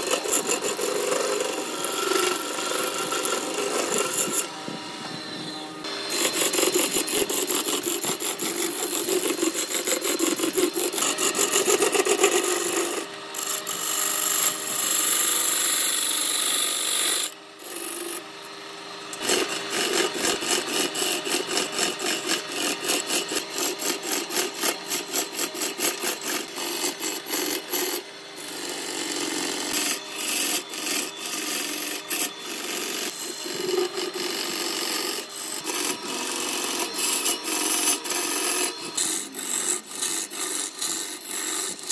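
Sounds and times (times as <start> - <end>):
lathe tool scraping wood: 0.0 - 41.9.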